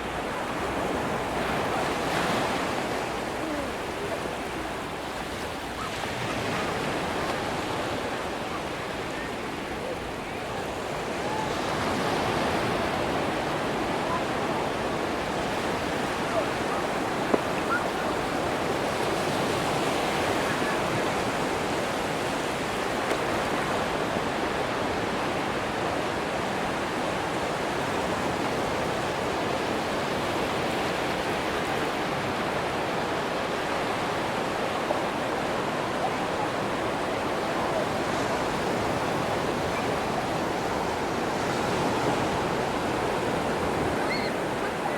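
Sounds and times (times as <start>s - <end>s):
waves breaking on beach: 0.0s - 44.9s.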